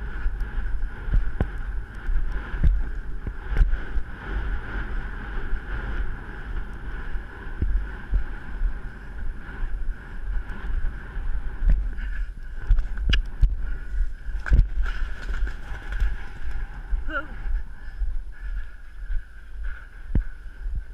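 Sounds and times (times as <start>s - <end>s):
wind buffeting the microphone: 0.0s - 20.9s.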